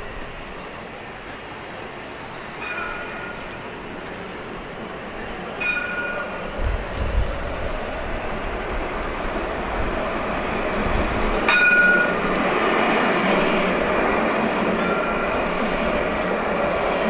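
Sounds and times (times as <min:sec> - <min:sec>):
tram passing on track: 0:00.0 - 0:17.0.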